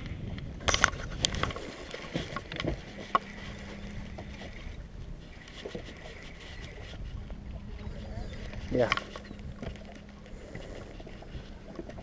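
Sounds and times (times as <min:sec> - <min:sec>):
wind and water: 0:00.0 - 0:12.0.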